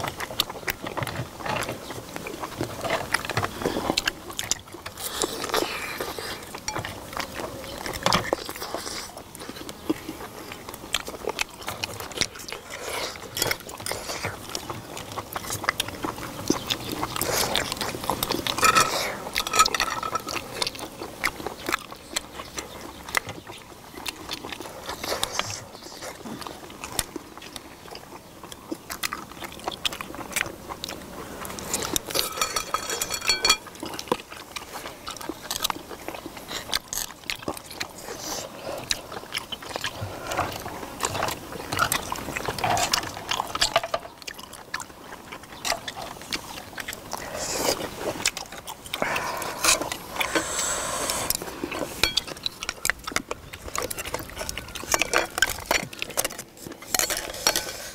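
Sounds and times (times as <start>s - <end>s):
chewing and biting: 0.0s - 57.9s.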